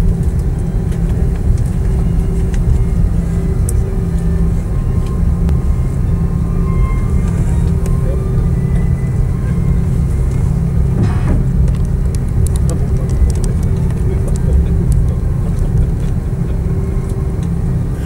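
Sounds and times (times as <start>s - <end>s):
engines and rolling gear rumble: 0.0s - 18.0s
steady hum: 0.0s - 18.0s.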